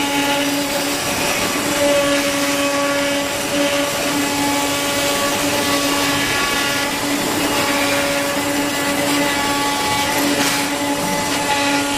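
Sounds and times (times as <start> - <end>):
cutting machine motor hum and whine: 0.0 - 11.9.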